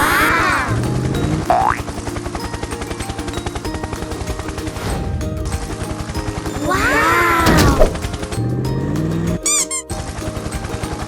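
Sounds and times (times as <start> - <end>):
cartoon background music: 0.0 - 11.0
fast ticking rattle: 0.0 - 11.0.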